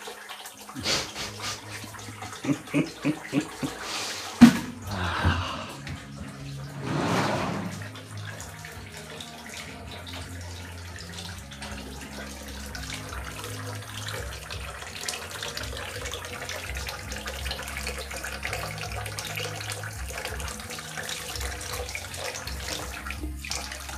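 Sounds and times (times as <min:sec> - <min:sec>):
water running into a plastic basin: 0:00.0 - 0:23.9.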